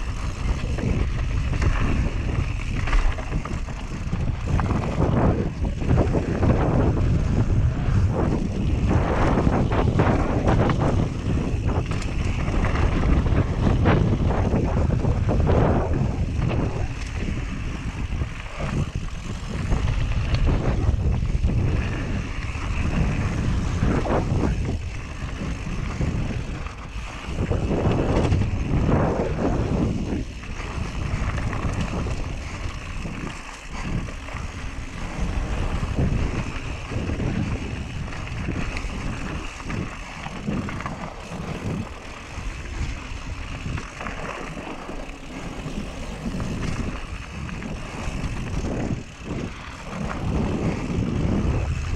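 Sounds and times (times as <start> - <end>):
bike rattling over bumps: 0.0 - 51.9
bike tyres on dirt and gravel: 0.0 - 51.9
wind buffeting microphone: 0.0 - 51.9.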